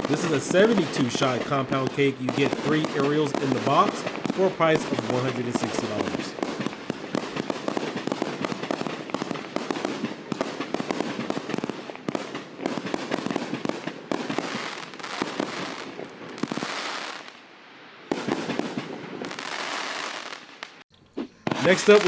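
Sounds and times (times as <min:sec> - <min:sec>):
firework hissing and crackling: 0:00.0 - 0:17.4, 0:18.1 - 0:20.8, 0:21.4 - 0:22.0
firework shots and crackling pops: 0:00.0 - 0:22.0.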